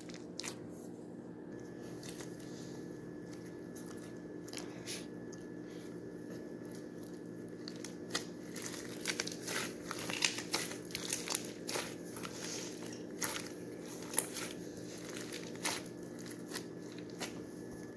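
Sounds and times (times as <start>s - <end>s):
steady low hum: 0.0s - 17.9s
crunchy slime crackling: 1.8s - 5.6s, 6.3s - 17.9s.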